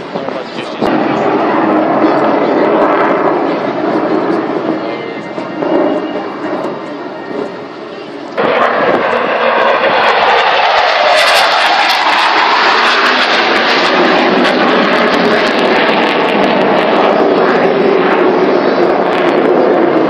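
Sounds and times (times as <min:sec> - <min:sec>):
aircraft engine rush: 0:00.0 - 0:20.0.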